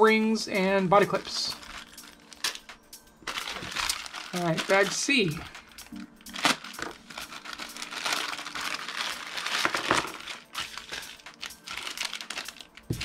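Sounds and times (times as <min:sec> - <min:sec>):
plastic bag crinkling: 0:01.1 - 0:13.0.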